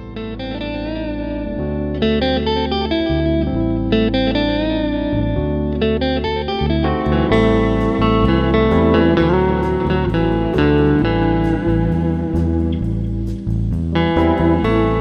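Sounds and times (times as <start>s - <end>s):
bass line: 0.0s - 15.0s
electric guitar melody: 0.0s - 15.0s.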